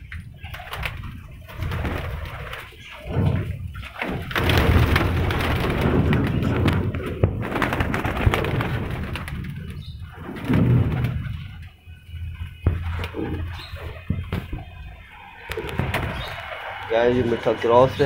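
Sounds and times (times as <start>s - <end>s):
pigeons cooing: 0.0s - 16.9s
wings flapping: 0.0s - 18.0s.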